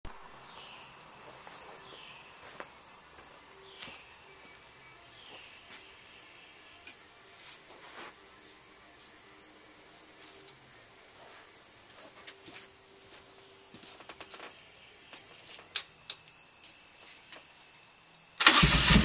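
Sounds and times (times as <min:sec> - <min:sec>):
insect chorus: 0:00.1 - 0:19.0.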